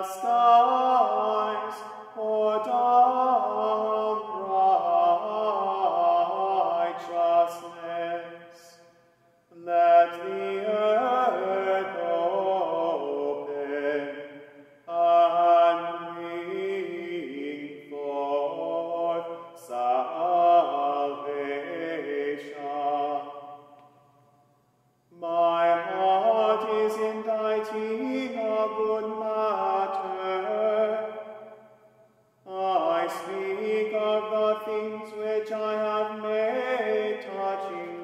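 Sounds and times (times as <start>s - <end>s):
man singing chant unaccompanied: 0.0s - 8.8s, 9.5s - 23.4s, 25.1s - 31.6s, 32.4s - 38.0s.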